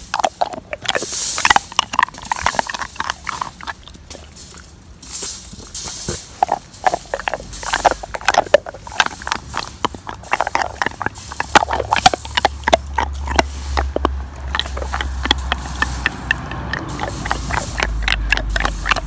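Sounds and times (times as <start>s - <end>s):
dog licking: 0.0s - 4.6s, 5.6s - 19.0s
dog sniffing and snuffling: 0.0s - 19.0s.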